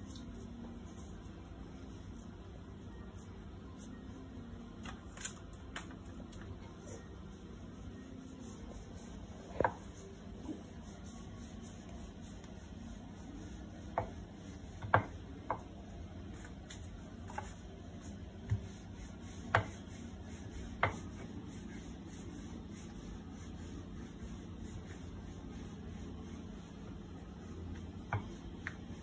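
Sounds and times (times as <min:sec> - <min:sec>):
rolling pin rubbing dough: 0:00.0 - 0:04.8, 0:06.0 - 0:29.0.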